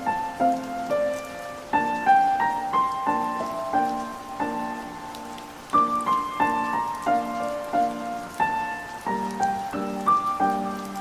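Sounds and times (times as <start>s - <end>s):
gentle melody of struck notes: 0.0s - 11.0s
steady rain: 0.0s - 11.0s.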